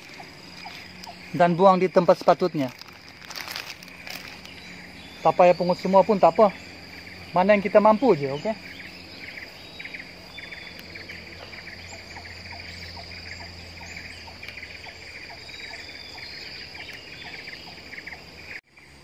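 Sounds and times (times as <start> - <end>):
insects chirping trills: 0.0 - 19.0
insects high-pitched drone: 0.0 - 19.0.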